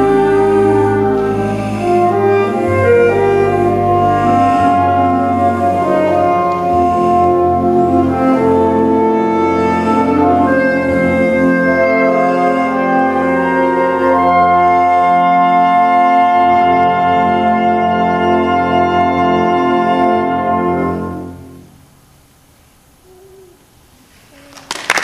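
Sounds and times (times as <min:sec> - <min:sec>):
concert band playing held chords: 0:00.0 - 0:21.4.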